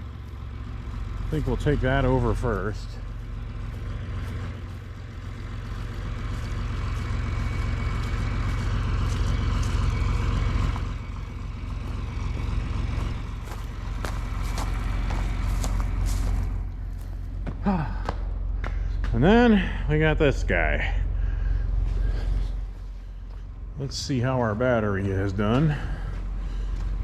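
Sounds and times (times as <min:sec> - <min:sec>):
tractor engine droning: 0:00.0 - 0:27.0.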